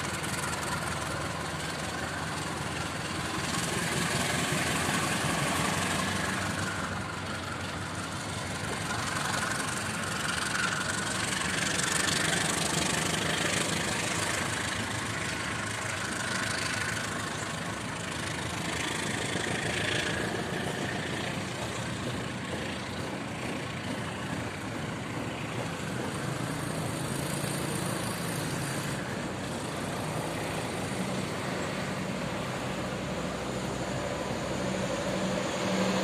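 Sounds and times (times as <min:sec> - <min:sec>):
train engine drone: 0:00.0 - 0:36.0.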